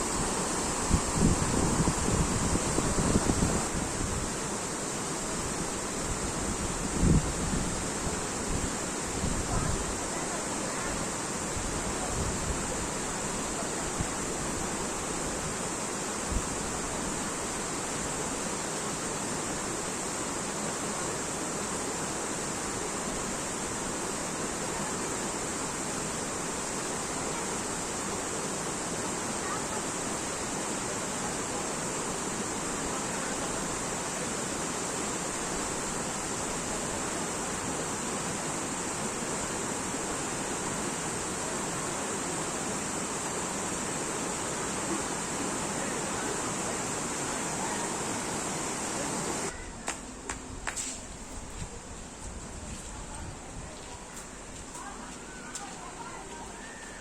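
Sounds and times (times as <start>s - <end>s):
waterfall rushing: 0.0s - 6.9s, 7.6s - 50.2s.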